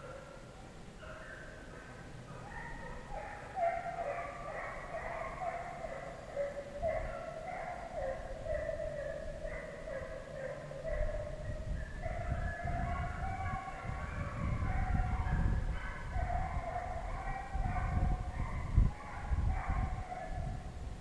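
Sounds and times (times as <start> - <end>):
hounds baying: 0.0 - 20.6.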